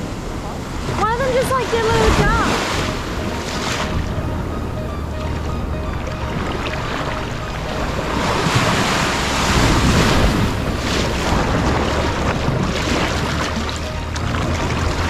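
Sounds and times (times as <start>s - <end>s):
ocean waves breaking on sand: 0.0s - 15.0s
wind rumbling on microphone: 0.0s - 15.0s.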